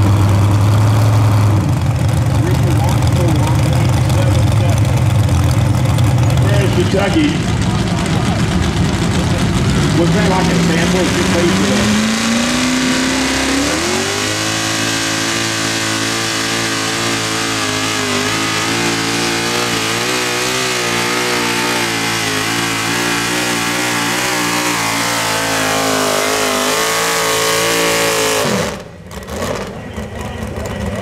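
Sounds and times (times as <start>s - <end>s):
engine at full throttle: 0.0s - 31.0s.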